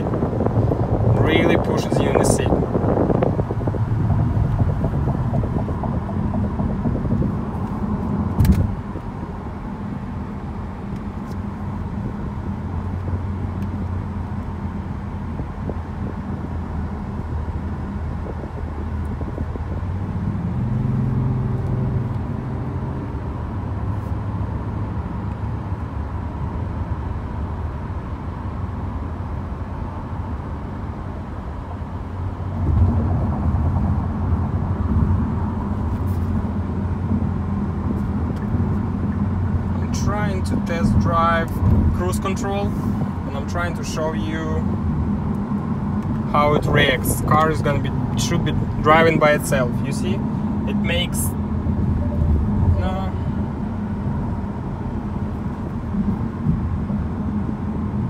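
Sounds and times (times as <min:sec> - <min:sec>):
car engine at highway speed: 0:00.0 - 0:58.0
road and tyre noise: 0:00.0 - 0:58.0.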